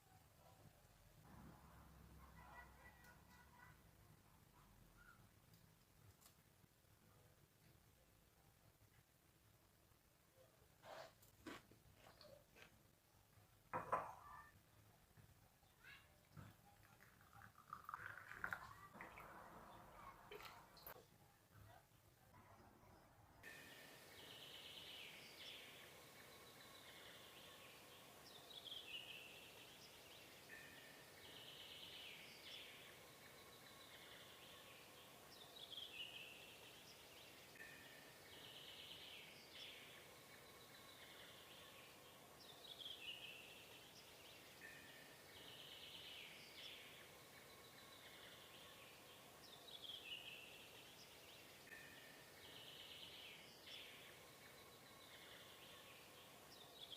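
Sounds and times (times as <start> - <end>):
faint birdsong: 0.0 - 56.9.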